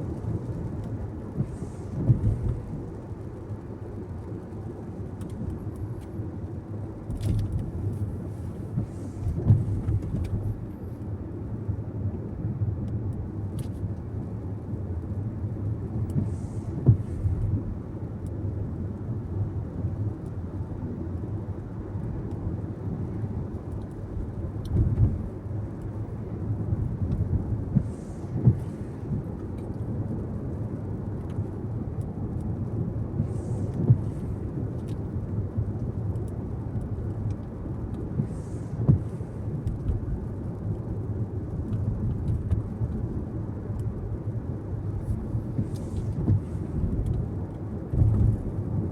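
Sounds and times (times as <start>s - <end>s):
car road noise rumble: 0.0s - 48.9s.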